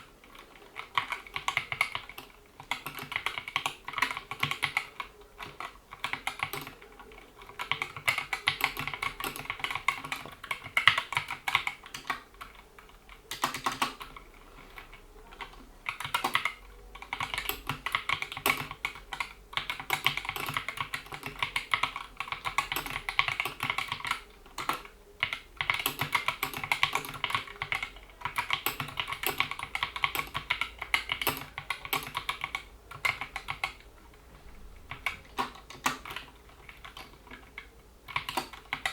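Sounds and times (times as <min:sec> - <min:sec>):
typing on mechanical keyboard: 0:00.0 - 0:33.9, 0:34.9 - 0:38.9.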